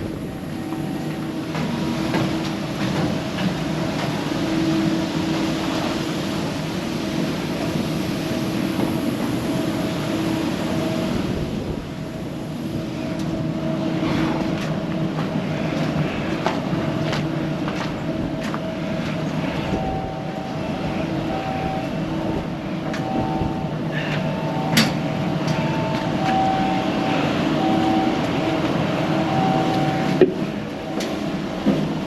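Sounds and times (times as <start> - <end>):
machinery low hum: 0.0 - 32.0.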